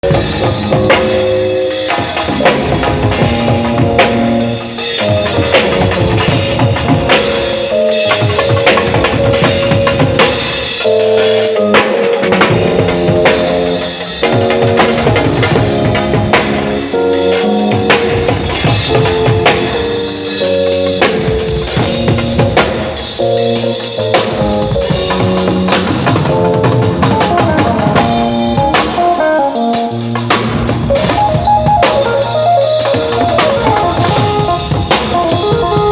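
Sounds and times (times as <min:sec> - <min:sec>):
bass drum: 0:00.0 - 0:35.9
live band playing: 0:00.0 - 0:35.9.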